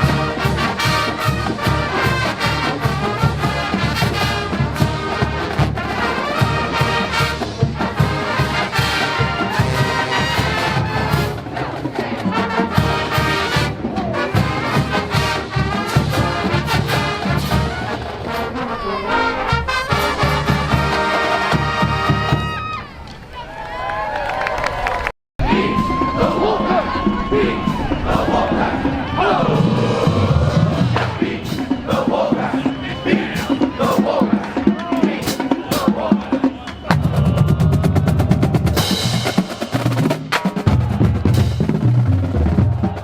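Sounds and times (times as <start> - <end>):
drums beating: 0.0 - 22.8, 25.4 - 43.0
trombones and trumpets: 0.0 - 22.8, 25.4 - 43.0
marching band playing: 0.0 - 23.0, 25.4 - 43.0.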